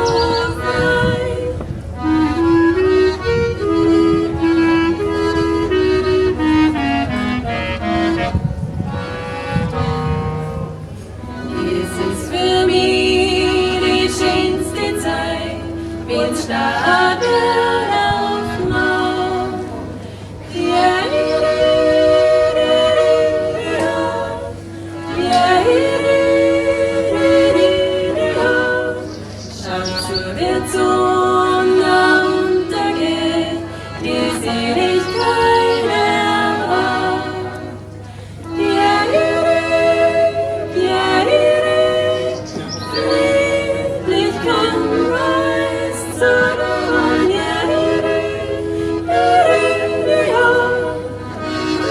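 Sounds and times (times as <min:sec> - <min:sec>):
women's folk group singing: 0:00.0 - 0:08.3, 0:09.7 - 0:51.9.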